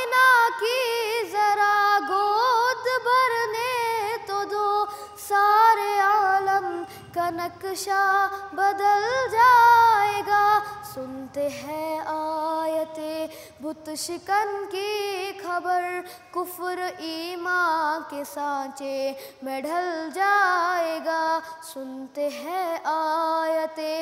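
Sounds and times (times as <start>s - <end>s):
boy singing solo: 0.0s - 24.0s.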